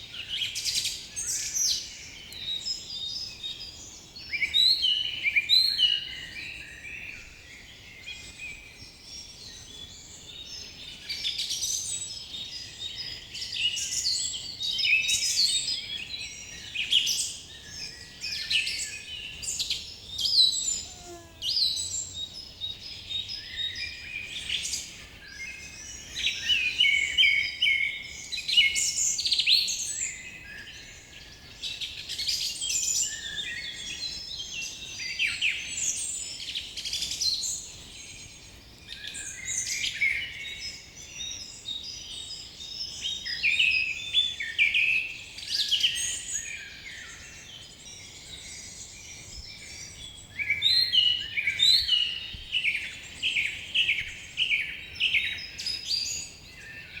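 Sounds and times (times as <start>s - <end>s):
forest birds chirping: 0.0s - 57.0s.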